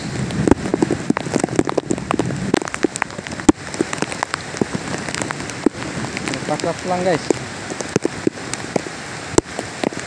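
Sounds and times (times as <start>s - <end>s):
heavy rain falling: 0.0s - 10.0s
large raindrops ticking: 0.0s - 10.0s.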